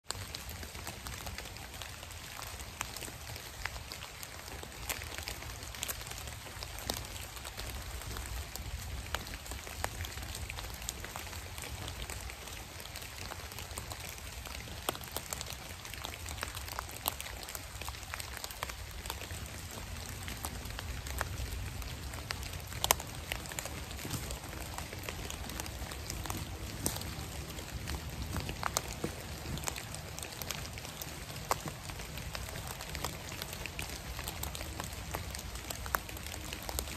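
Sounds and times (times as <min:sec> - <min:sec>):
water drops pattering on leaves: 0:00.1 - 0:36.9.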